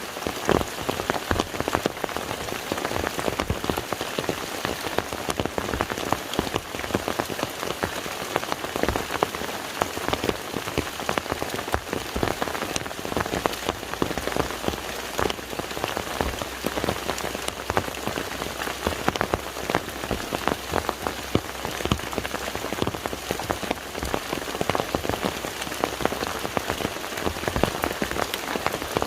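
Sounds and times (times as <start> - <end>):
rain falling on lake: 0.0 - 29.0.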